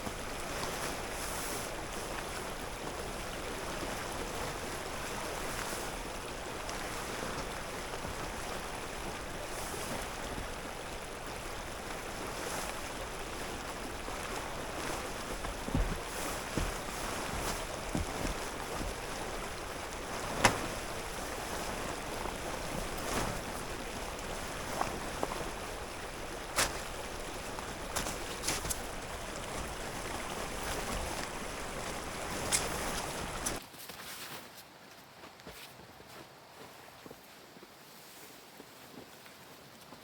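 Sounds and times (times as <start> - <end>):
stream flowing: 0.0 - 33.6.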